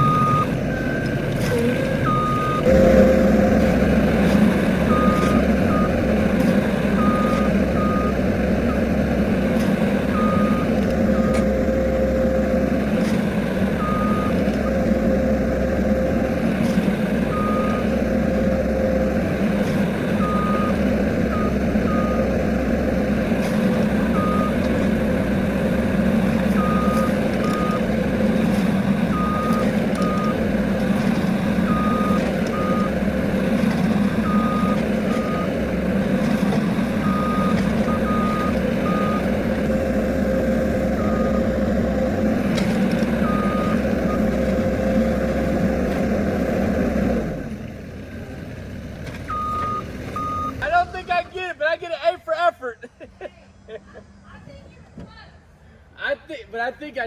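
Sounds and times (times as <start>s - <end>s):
backup alarm beeping: 0.0s - 45.5s, 49.3s - 50.6s
loader engine running: 0.0s - 51.9s.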